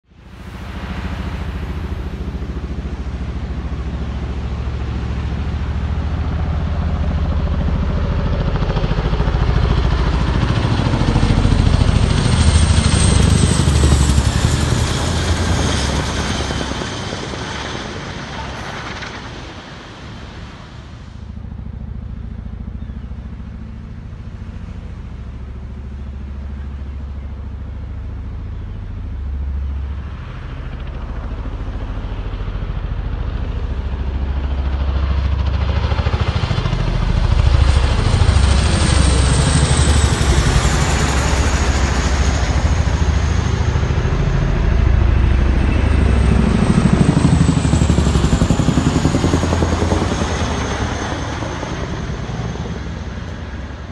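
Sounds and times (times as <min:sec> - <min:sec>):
helicopter rotors throbbing: 0:00.1 - 0:53.9.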